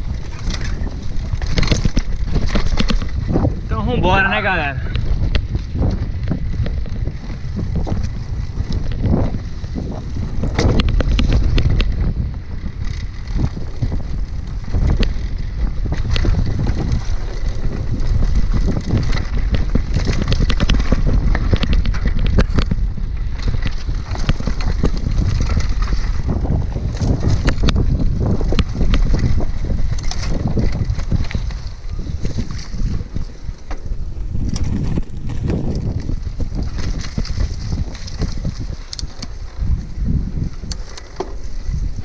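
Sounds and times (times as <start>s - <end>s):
bike knocking and rattling: 0.0s - 42.0s
bike tyres on dirt: 0.0s - 42.0s
wind rumble on microphone: 0.0s - 42.0s.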